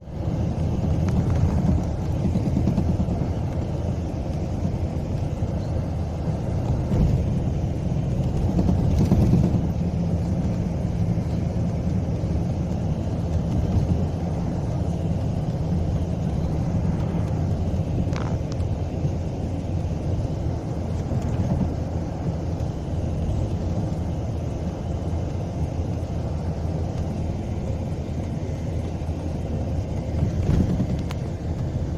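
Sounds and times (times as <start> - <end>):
low rumble: 0.0 - 31.9
train wheels clattering on track: 0.2 - 31.9.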